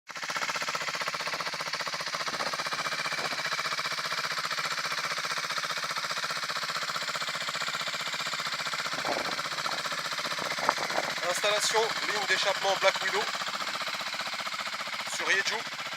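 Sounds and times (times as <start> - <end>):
scooter idling: 0.1 - 15.9.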